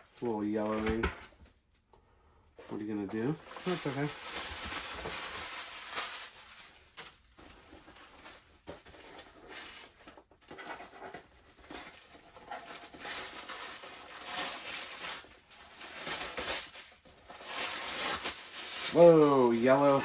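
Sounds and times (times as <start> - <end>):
paper and packaging rustling: 0.0 - 1.7, 2.6 - 20.0.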